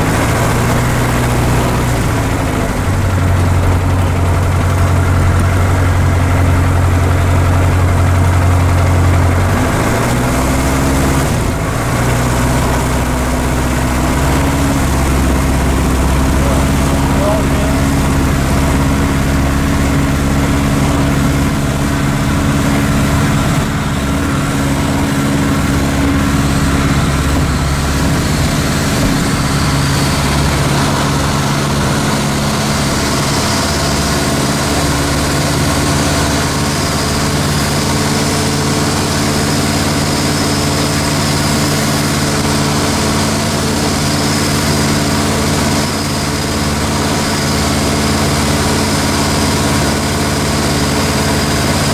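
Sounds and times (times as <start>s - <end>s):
aircraft engine and propeller: 0.0s - 51.9s.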